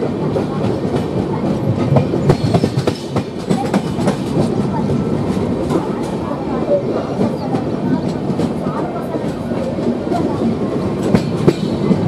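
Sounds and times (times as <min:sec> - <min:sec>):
clickety-clack of rails: 0:00.0 - 0:12.0
train wheels rumbling on track: 0:00.0 - 0:12.0.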